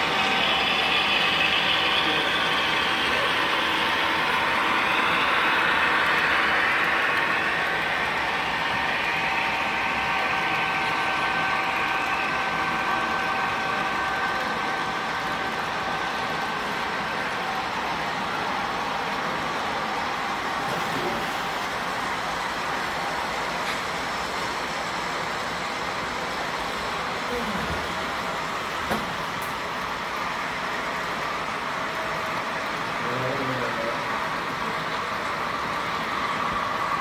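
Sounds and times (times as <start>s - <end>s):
faint steady whine: 0.0s - 37.0s
model train running: 0.0s - 37.0s.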